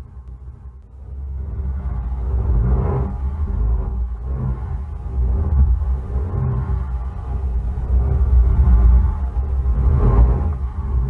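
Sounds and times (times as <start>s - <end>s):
deep underwater rumble: 0.0s - 11.0s.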